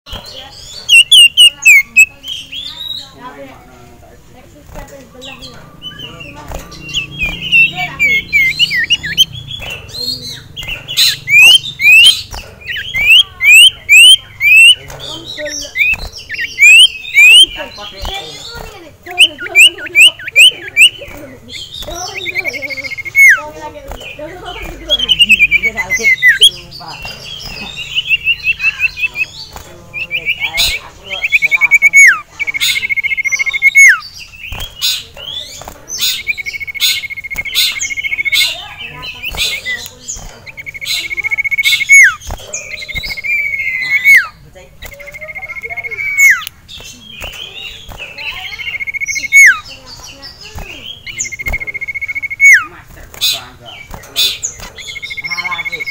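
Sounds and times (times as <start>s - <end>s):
bird chattering notes: 0.1s - 55.9s.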